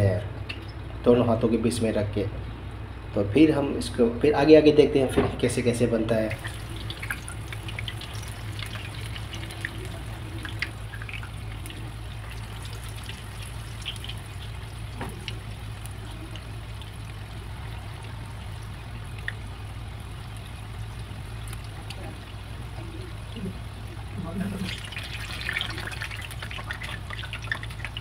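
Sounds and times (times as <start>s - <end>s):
low steady hum: 0.0s - 28.0s
bubbling sizzle of deep-frying: 5.1s - 28.0s.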